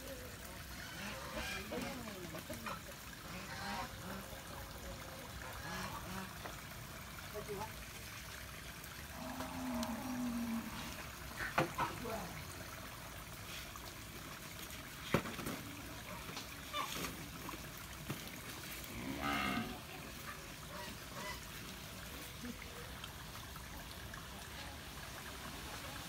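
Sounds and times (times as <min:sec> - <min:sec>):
faint outdoor background noise: 0:00.0 - 0:26.0.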